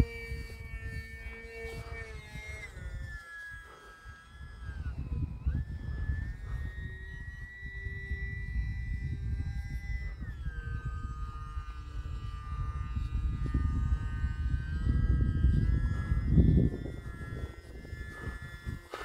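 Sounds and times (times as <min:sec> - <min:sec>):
model plane motor whining: 0:00.0 - 0:19.0
wind rumble on microphone: 0:00.0 - 0:19.0.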